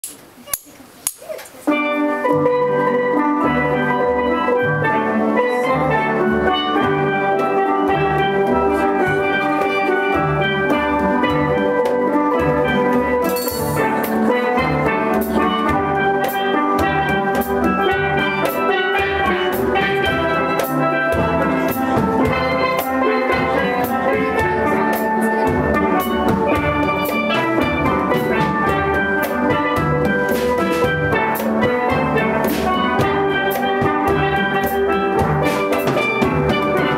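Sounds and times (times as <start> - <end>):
percussion beat: 0.0 - 36.9
steel pans playing melody: 0.0 - 36.9
bass pan notes: 1.7 - 36.9.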